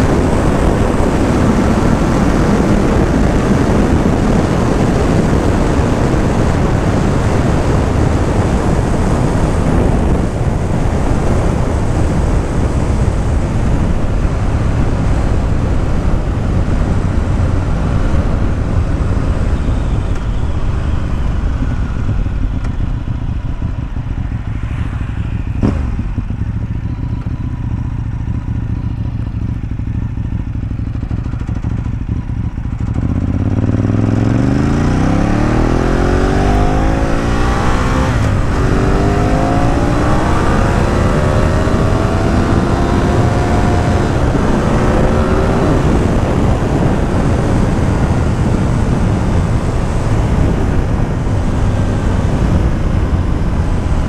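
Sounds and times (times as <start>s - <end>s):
motorcycle engine and exhaust: 0.0s - 54.0s
wind rush: 0.0s - 54.0s.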